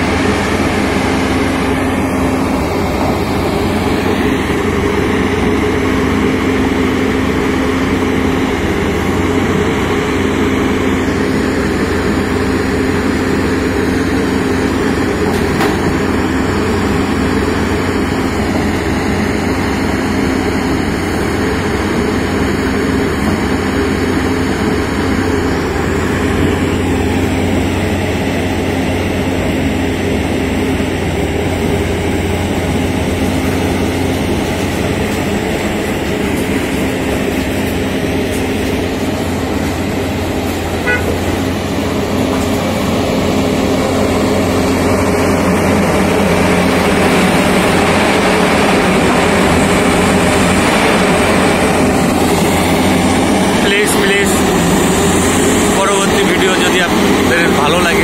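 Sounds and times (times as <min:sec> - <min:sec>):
piling rig engine droning: 0:00.0 - 0:58.0.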